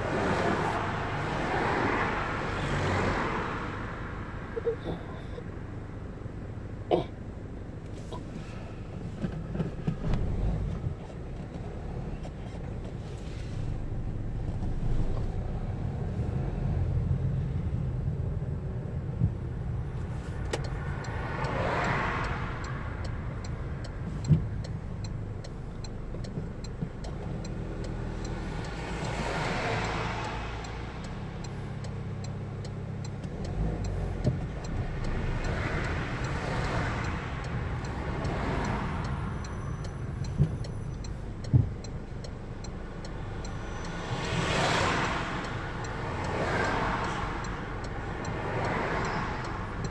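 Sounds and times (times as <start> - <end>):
traffic swishing past: 0.0 - 4.6, 7.9 - 49.9
car road and engine rumble: 0.0 - 49.9
light regular ticking: 7.7 - 49.9.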